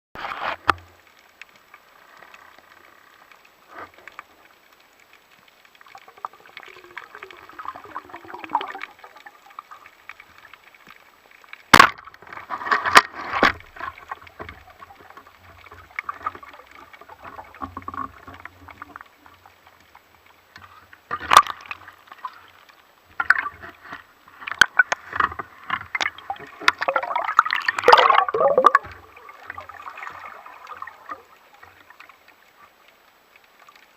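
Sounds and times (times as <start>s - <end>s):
water sloshing and gurgling: 0.2s - 33.9s.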